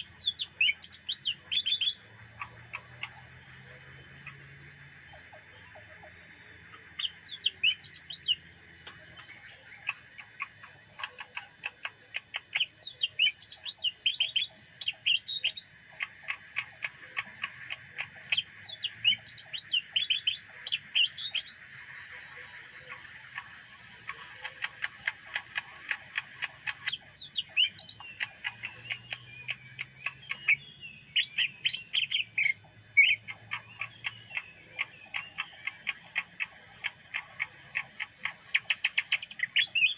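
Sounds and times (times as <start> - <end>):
quick ticking bird notes: 0.0 - 4.4, 5.1 - 39.9
bird singing chirping phrases: 0.0 - 39.9.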